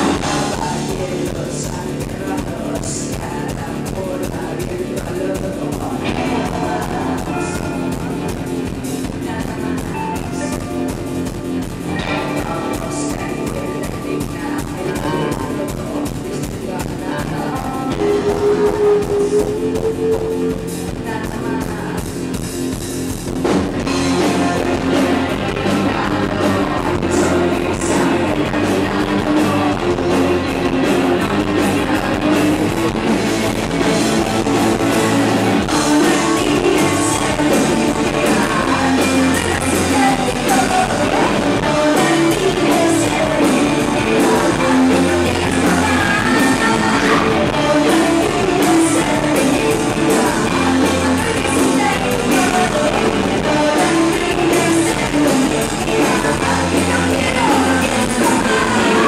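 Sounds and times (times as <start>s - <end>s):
drums: 0.0s - 59.0s
electric guitar: 0.0s - 59.0s
person singing through speakers: 0.0s - 59.0s.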